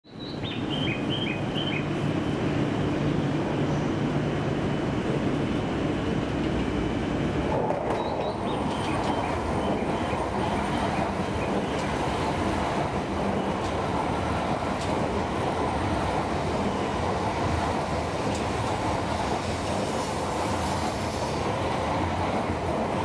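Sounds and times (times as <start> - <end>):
train running with motor hum: 0.1 - 23.0.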